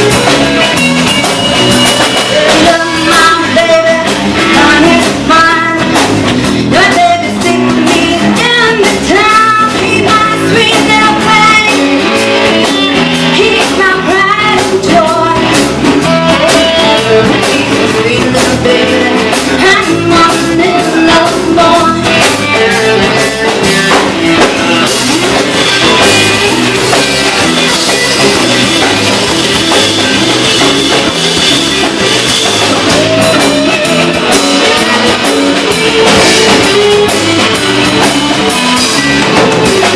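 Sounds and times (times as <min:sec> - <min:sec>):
blues-rock band playing: 0:00.0 - 0:39.9
person singing: 0:00.0 - 0:39.9.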